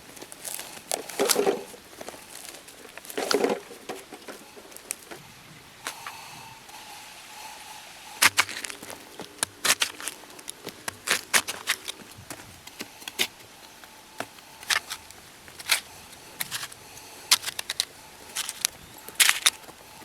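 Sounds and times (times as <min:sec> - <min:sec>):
quiet rustling: 0:00.0 - 0:06.9, 0:07.7 - 0:20.0.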